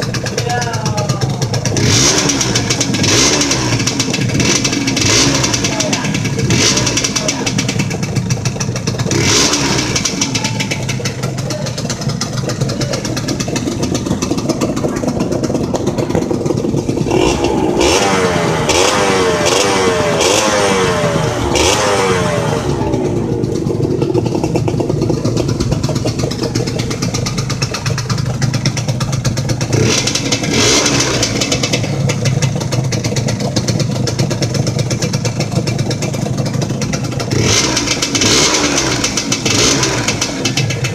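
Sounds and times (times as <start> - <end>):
two-stroke engine revving: 0.0 - 40.9.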